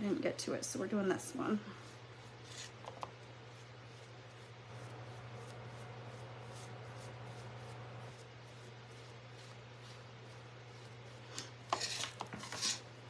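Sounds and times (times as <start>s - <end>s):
low steady hum: 0.0s - 13.0s
paint sponge dabbing on wood: 0.9s - 12.9s.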